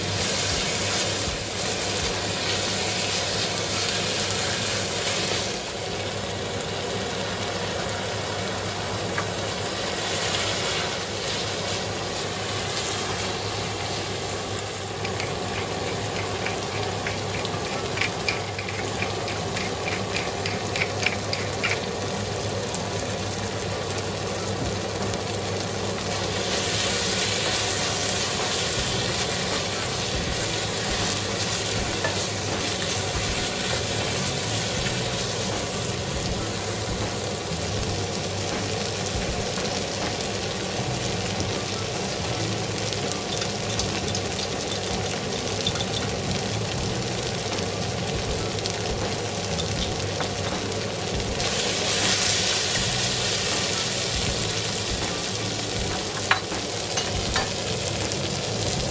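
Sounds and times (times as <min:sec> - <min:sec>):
mushrooms and onions sizzling in a wok: 0:00.0 - 0:58.9.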